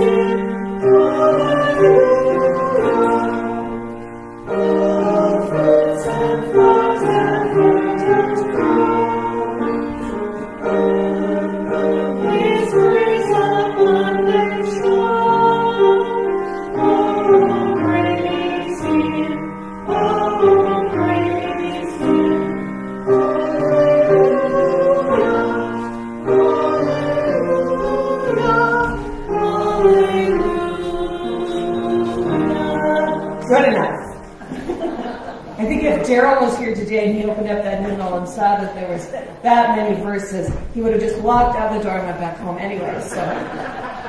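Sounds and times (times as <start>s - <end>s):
instrumental accompaniment: 0.0s - 35.6s
congregation singing a hymn: 0.0s - 38.7s, 42.6s - 44.0s.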